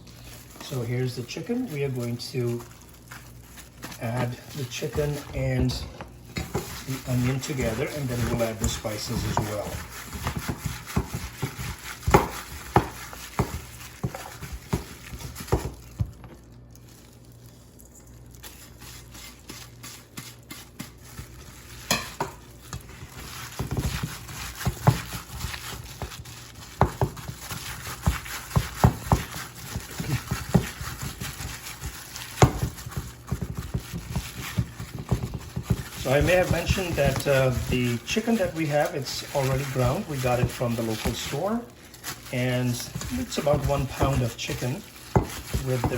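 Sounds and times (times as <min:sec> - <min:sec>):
food being stirred in a bowl: 0:00.0 - 0:45.9.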